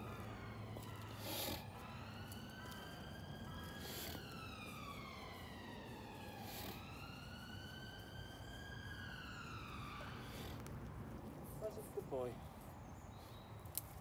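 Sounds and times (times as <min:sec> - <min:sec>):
faint siren wailing: 0:00.0 - 0:13.6.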